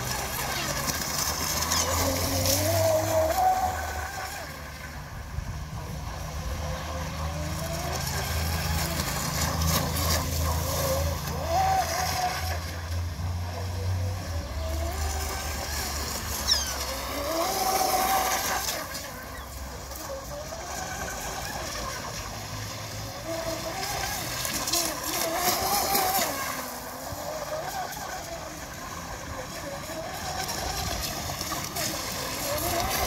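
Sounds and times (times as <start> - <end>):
model speedboat motor whining: 0.0 - 33.0.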